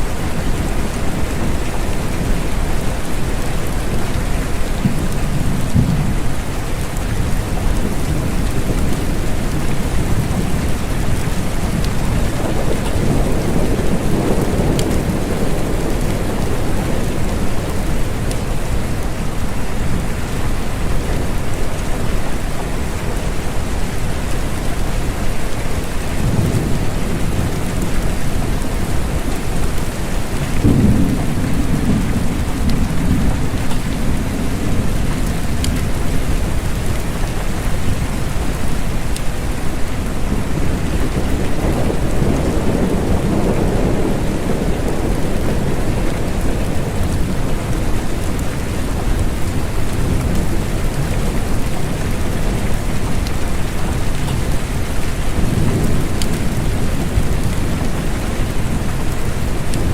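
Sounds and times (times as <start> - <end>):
steady rain: 0.0 - 59.9
thunder rumbling: 0.0 - 59.9.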